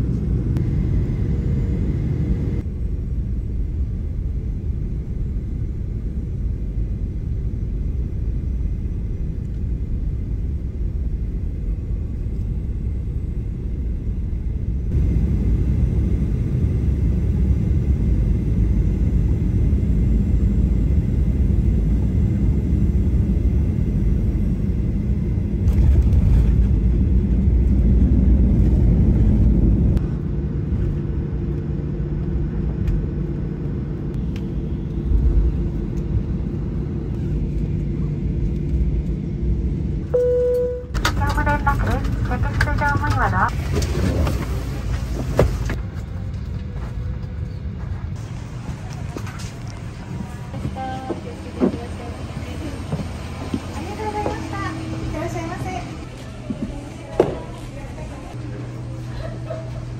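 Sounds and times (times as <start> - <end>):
jet engines and airflow rumble: 0.0 - 59.9.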